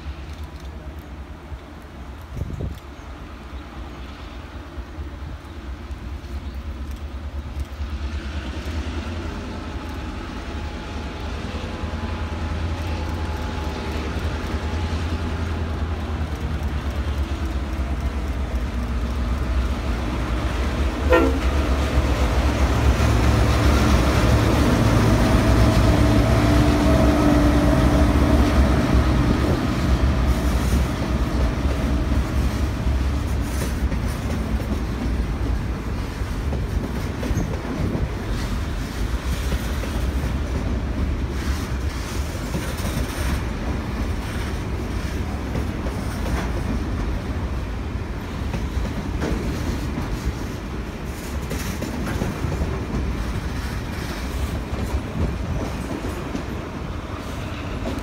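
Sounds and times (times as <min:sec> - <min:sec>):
diesel locomotive engine rumbling: 0:00.0 - 0:58.0
train wheels rattling over rail joints: 0:06.0 - 0:58.0.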